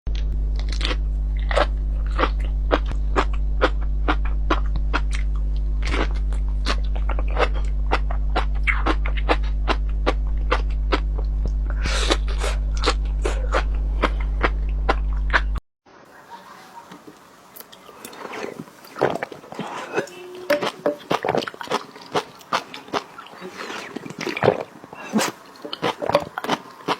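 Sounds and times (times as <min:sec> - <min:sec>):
crunching and chewing crisp food: 0:00.1 - 0:15.6, 0:17.1 - 0:26.9
low electrical hum: 0:00.1 - 0:26.9.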